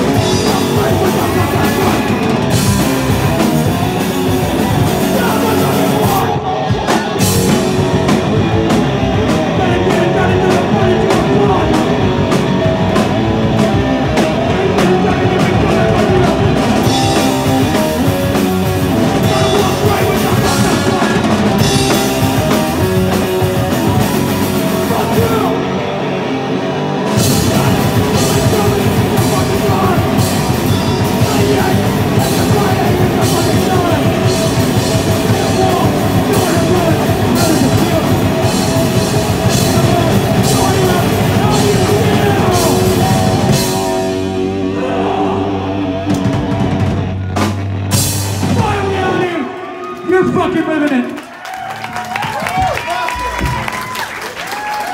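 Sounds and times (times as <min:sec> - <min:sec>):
drums and cymbals: 0:00.0 - 0:25.6, 0:27.1 - 0:44.7, 0:45.8 - 0:49.2
live punk band playing: 0:00.0 - 0:51.0.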